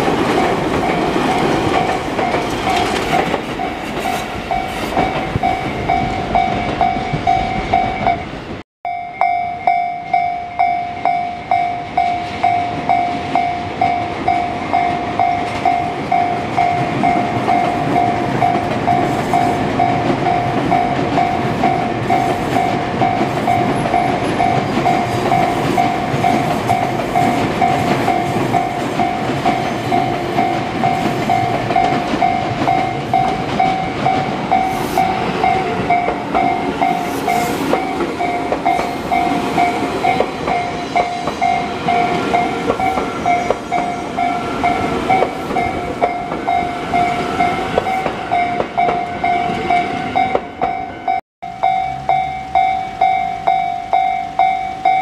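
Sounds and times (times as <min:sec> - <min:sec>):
train wheel rumble and clatter: 0:00.0 - 0:08.2, 0:12.2 - 0:50.8
level crossing warning bell: 0:00.0 - 0:55.0.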